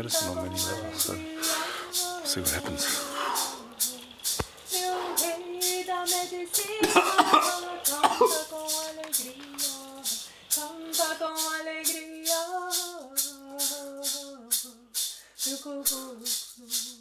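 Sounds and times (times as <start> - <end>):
hand rattle shaken: 0.0 - 17.0
person singing slow melody: 0.0 - 17.0.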